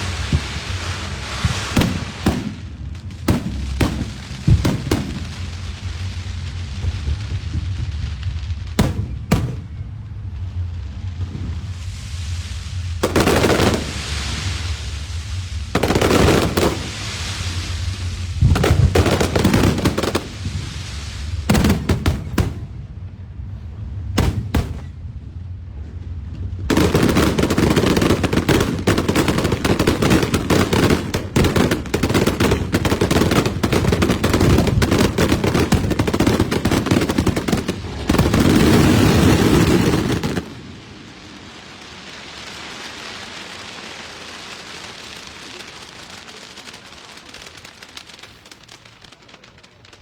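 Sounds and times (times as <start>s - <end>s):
fireworks bangs and crackling: 0.0s - 50.0s
soft hiss: 0.0s - 50.0s.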